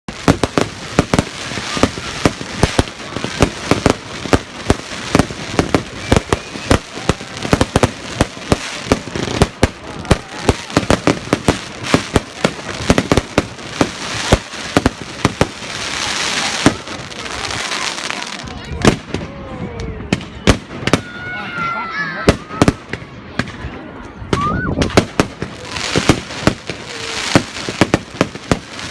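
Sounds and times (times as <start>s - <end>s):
fireworks bangs and pops: 0.1s - 21.3s, 22.2s - 28.9s.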